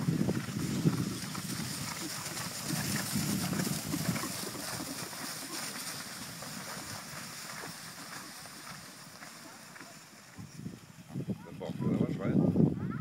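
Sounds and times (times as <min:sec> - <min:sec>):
horse hooves galloping on grass: 0:00.0 - 0:13.0.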